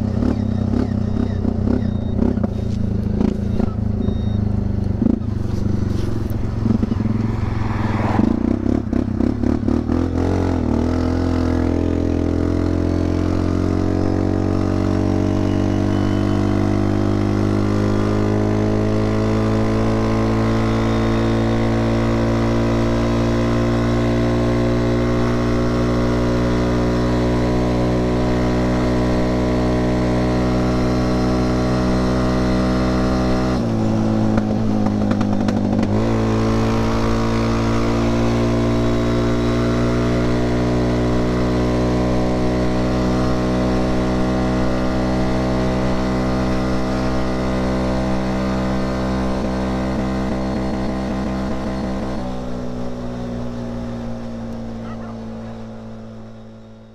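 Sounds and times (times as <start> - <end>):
atv engine running: 0.0 - 56.9.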